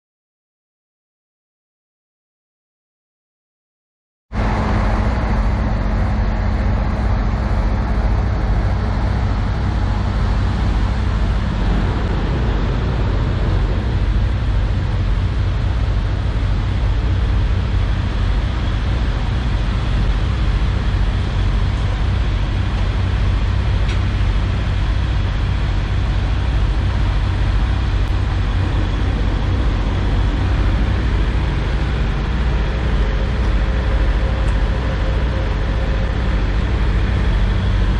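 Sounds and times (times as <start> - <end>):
higher hum: 4.4 - 24.3, 25.2 - 37.9
diesel engines idling: 4.4 - 37.9.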